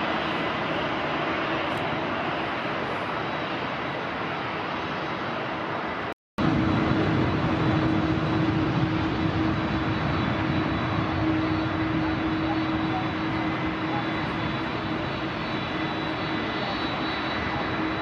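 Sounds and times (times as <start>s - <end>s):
high engine whine: 0.0s - 18.0s
jet engine roar: 0.0s - 18.0s.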